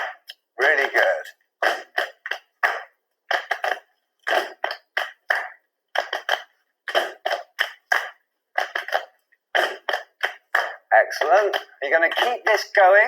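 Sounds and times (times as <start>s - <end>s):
hand claps and slaps: 0.0s - 12.4s.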